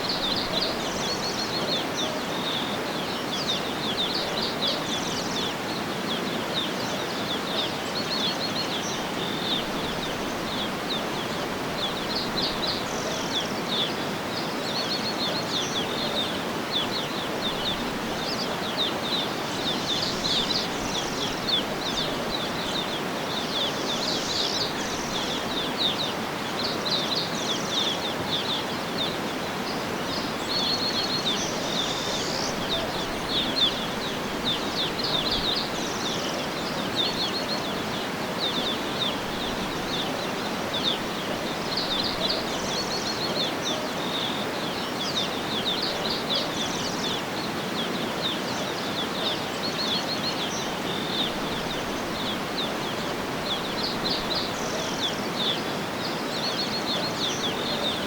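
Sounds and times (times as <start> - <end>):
outdoor background hiss: 0.0 - 58.0
small birds chirping: 0.0 - 58.0.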